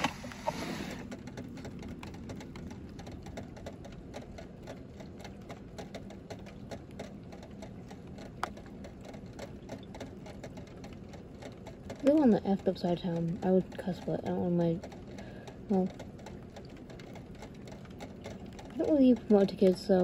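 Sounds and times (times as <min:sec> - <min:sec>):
raindrops ticking on hard surface: 0:01.0 - 0:20.0.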